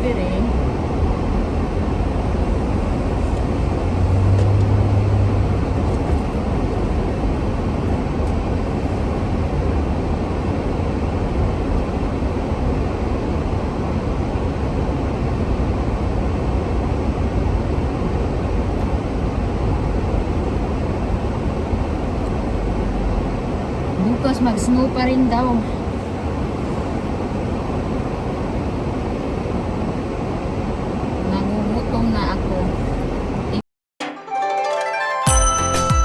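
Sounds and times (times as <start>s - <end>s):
car road and engine noise: 0.0s - 33.6s.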